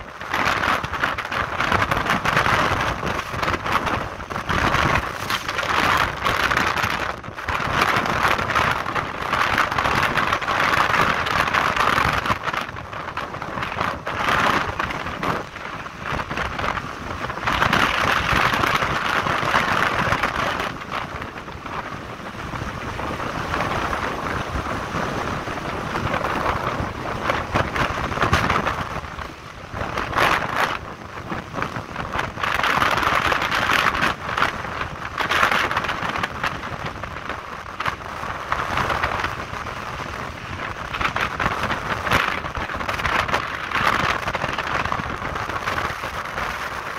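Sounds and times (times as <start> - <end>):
road noise: 0.0 - 46.9
wind rushing over microphone: 0.0 - 46.9.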